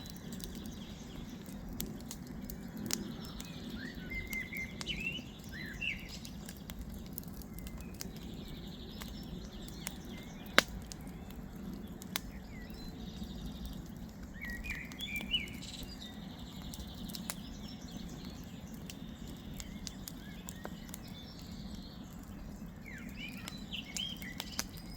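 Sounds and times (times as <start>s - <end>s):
birds chirping: 0.0s - 24.9s
campfire crackling and popping: 0.0s - 24.9s.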